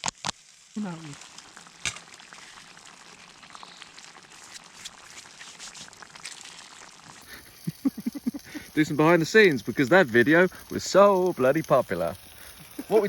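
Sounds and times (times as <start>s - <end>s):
onions sizzling in a pan: 0.1s - 13.0s.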